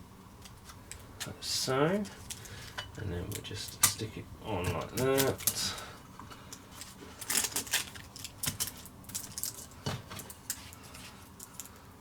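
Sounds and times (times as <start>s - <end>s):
tape and plastic clicks and crackles: 2.0s - 11.8s.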